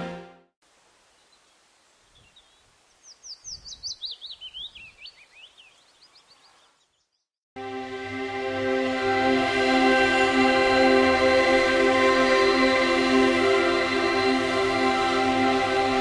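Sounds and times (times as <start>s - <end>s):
outdoor background hiss: 0.6s - 7.0s, 7.8s - 16.0s.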